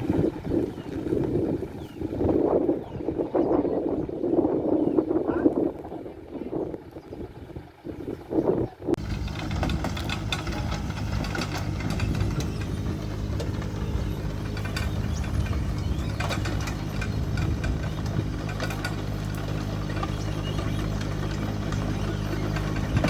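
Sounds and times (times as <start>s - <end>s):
engine running with rattling clatter: 0.0s - 2.7s, 6.5s - 23.0s.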